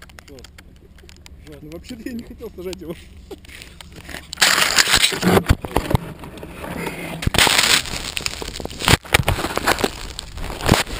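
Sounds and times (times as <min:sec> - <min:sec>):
dry grass rustling on camera: 0:01.0 - 0:10.9.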